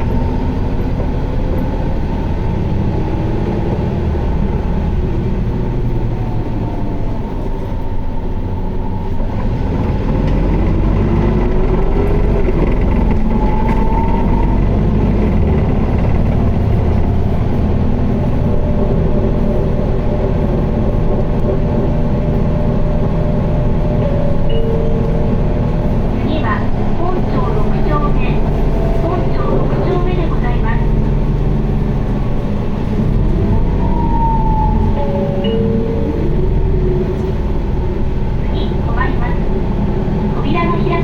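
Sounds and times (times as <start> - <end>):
bus diesel engine drone: 0.0 - 41.0.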